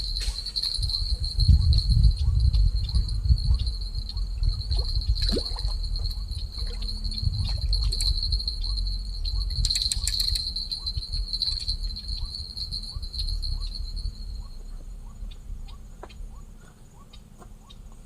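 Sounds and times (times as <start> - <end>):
low rumble: 0.0 - 16.4
insects trilling: 0.0 - 18.0.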